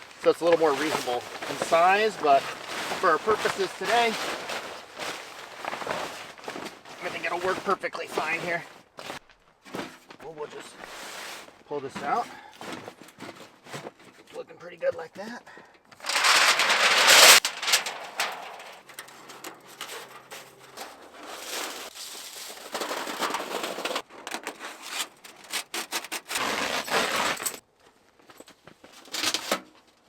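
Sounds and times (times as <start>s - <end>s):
camping gear rubbing and scraping: 0.0s - 14.3s, 16.0s - 18.6s, 19.2s - 27.6s.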